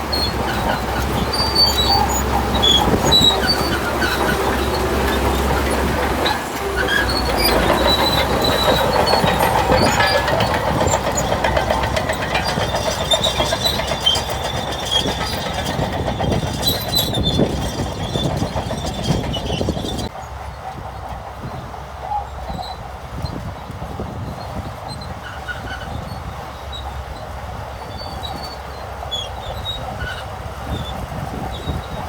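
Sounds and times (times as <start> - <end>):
diesel engine under load: 0.0 - 32.0
steel tracks clattering and squeaking: 0.0 - 32.0.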